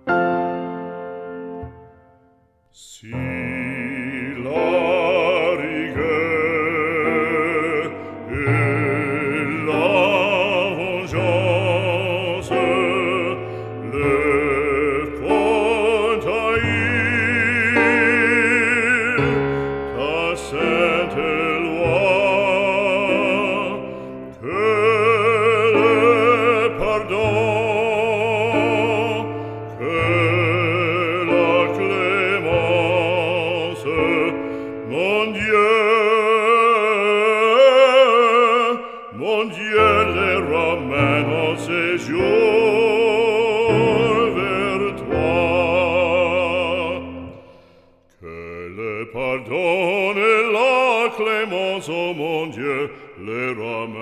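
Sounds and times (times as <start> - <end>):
operatic singing with vibrato: 2.7 - 54.0.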